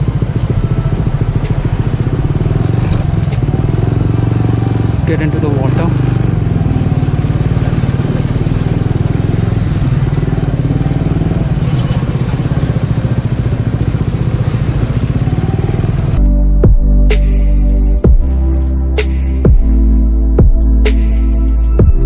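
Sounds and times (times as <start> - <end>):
motorcycle engine running slowly: 0.0 - 18.4.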